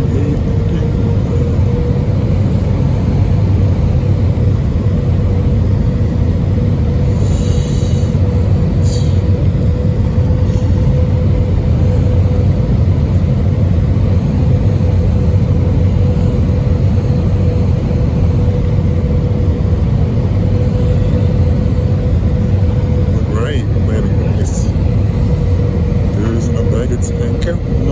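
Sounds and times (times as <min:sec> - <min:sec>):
airplane cabin engine rumble: 0:00.0 - 0:27.9
mid-pitched hum: 0:00.0 - 0:27.9.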